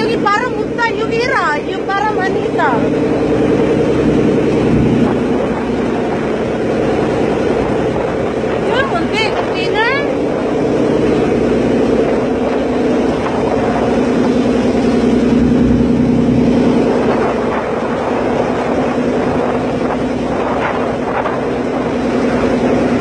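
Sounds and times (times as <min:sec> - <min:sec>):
ferry engine humming: 0:00.0 - 0:23.0
wind buffeting microphone: 0:00.0 - 0:23.0.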